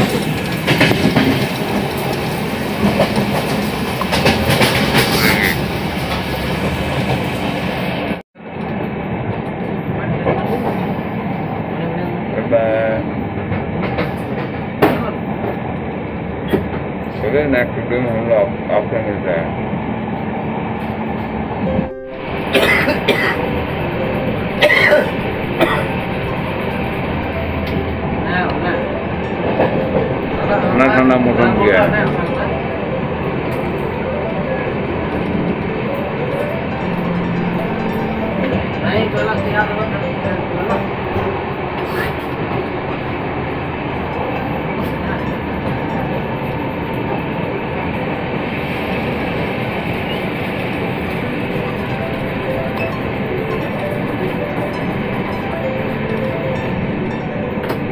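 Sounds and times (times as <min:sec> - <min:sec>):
train running noise inside coach: 0:00.0 - 0:57.9.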